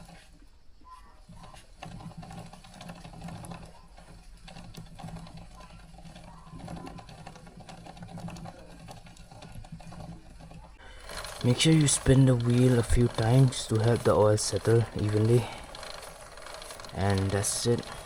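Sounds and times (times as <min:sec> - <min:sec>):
drive chain whirring rattle: 0:00.0 - 0:00.4, 0:01.2 - 0:18.0.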